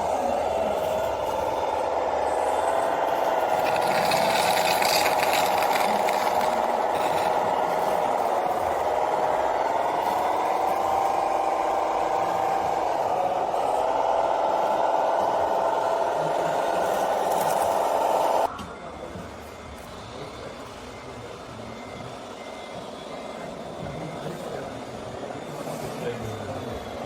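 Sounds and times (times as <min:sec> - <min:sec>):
small electric motor whining: 0:00.0 - 0:27.0.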